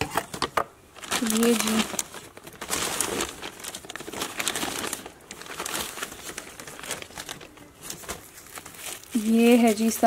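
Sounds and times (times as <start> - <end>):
plastic bag crinkling: 0.9 - 10.0.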